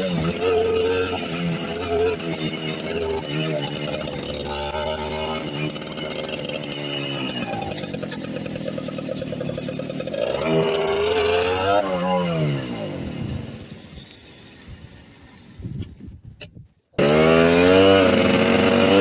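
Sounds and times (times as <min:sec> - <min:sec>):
small motorcycle engines revving: 0:00.0 - 0:15.6, 0:17.0 - 0:19.0.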